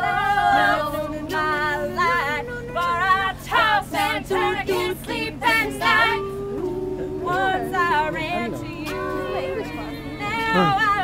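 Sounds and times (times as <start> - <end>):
female a cappella group singing: 0.0 - 11.0.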